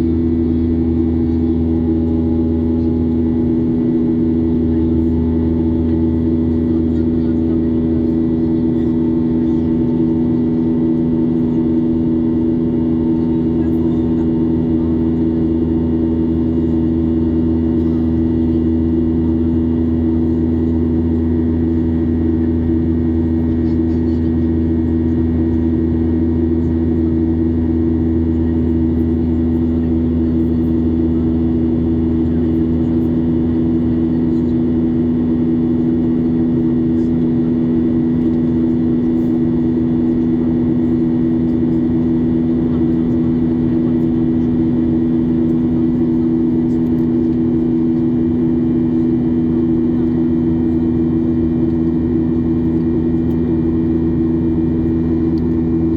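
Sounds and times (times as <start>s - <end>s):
jet engines droning in cabin: 0.0s - 55.9s.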